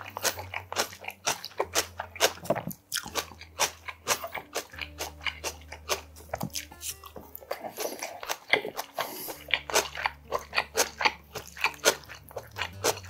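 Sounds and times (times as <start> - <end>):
wet crunchy chewing: 0.0 - 13.0.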